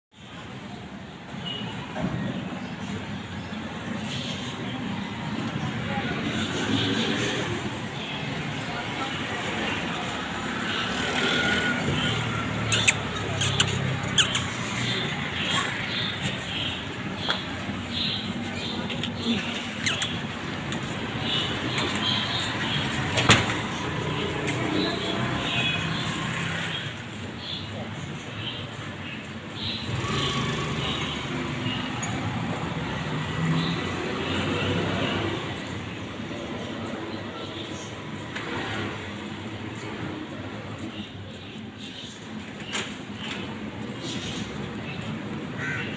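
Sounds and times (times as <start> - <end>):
rumble of passing vehicles: 0.2 - 45.9.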